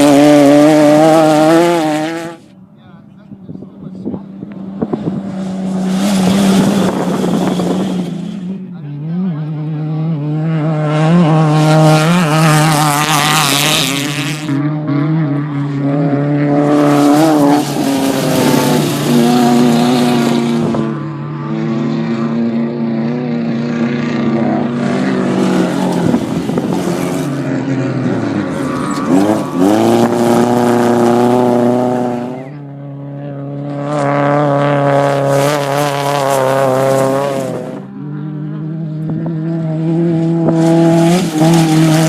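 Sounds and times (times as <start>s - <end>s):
race vehicle engines running hard: 0.0s - 42.0s.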